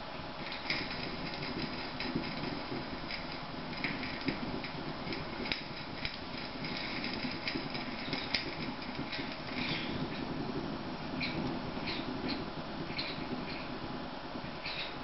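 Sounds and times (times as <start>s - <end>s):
flame crackles and pops: 0.0s - 15.0s
stove burner rushing: 0.0s - 15.0s.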